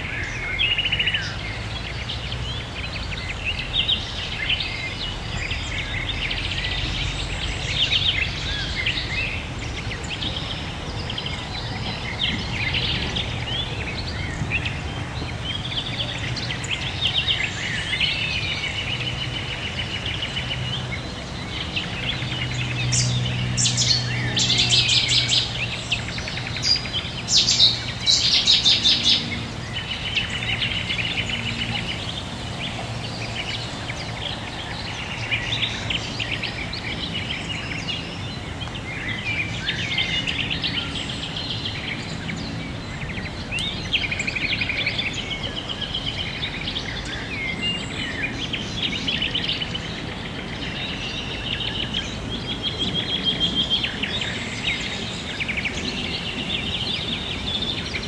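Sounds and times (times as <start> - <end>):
birds singing: 0.0 - 58.0
distant traffic hum: 0.0 - 58.0.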